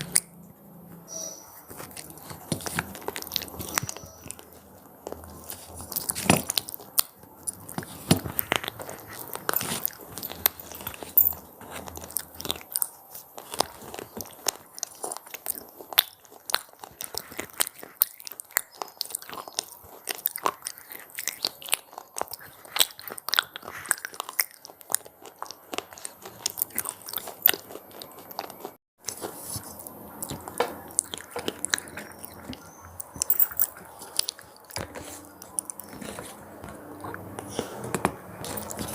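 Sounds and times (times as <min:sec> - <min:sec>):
chewing crunchy snacks: 0:01.6 - 0:38.9.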